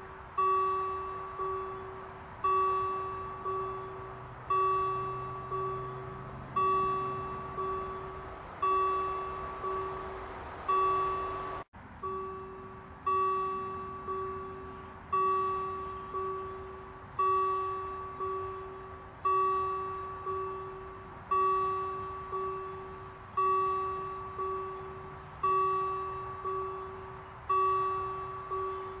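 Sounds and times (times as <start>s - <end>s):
level-crossing warning bell ringing: 0.0s - 29.0s.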